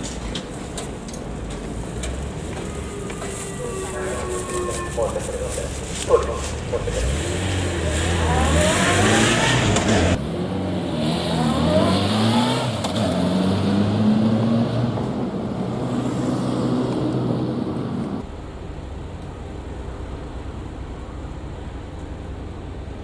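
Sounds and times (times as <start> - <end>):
vehicle engine accelerating: 1.4 - 23.0.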